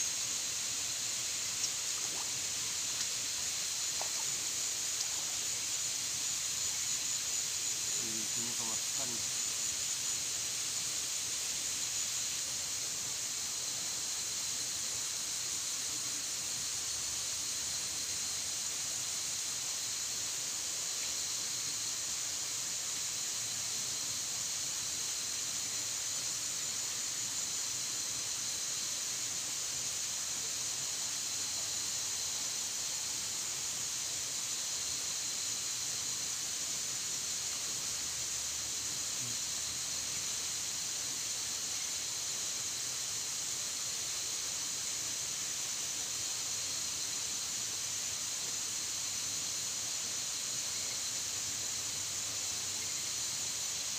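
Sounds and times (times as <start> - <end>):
insects shrilling: 0.0 - 53.9.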